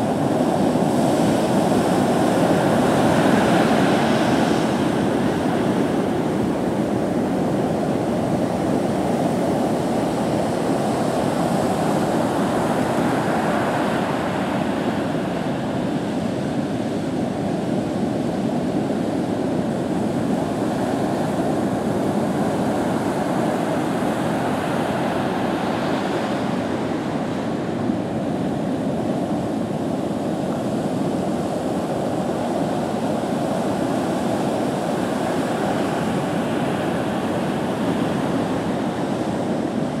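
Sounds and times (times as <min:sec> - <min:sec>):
waves breaking: 0:00.0 - 0:16.4, 0:19.4 - 0:40.0.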